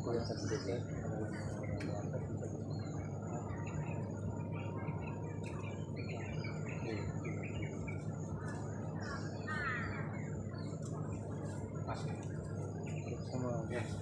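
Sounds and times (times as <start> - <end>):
birds chirping: 0.0 - 14.0
steady low background rush: 0.0 - 14.0.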